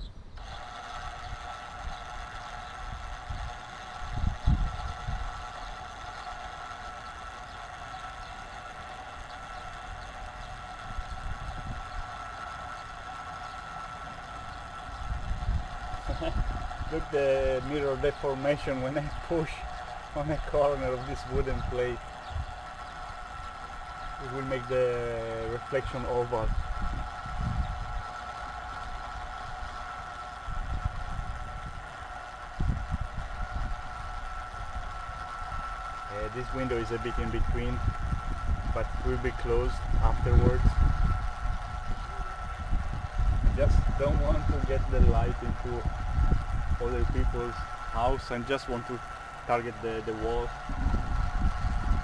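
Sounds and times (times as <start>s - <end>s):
electric gear motor whine: 0.0s - 52.0s
steady two-tone hum: 0.0s - 52.0s
wind buffeting microphone: 0.0s - 52.0s.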